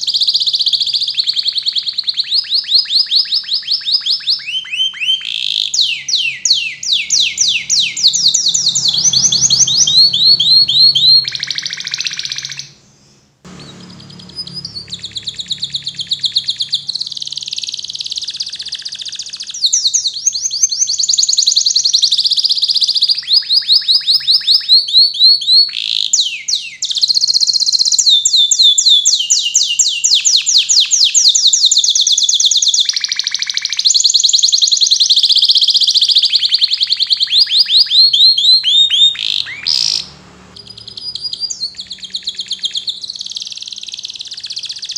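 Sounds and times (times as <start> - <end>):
canary singing rapid trills: 0.0 - 44.9.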